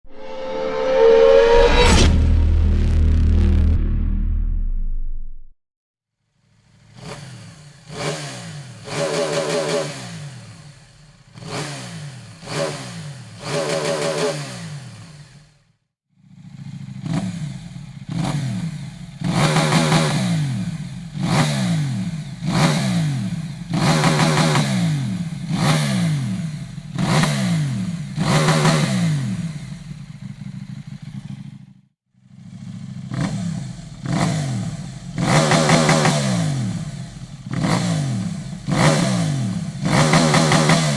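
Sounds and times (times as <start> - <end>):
motorcycle engine revving: 6.4 - 40.9.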